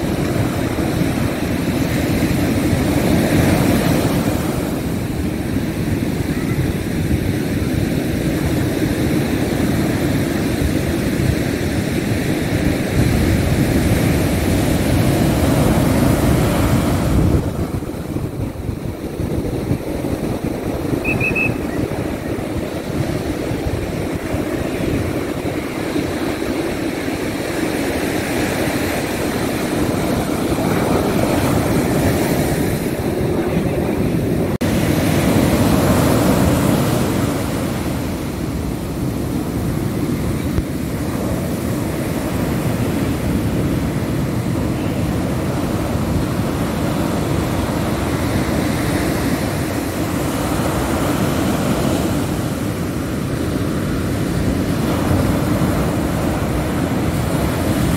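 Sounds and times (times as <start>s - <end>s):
ocean surf breaking: 0.0s - 57.9s.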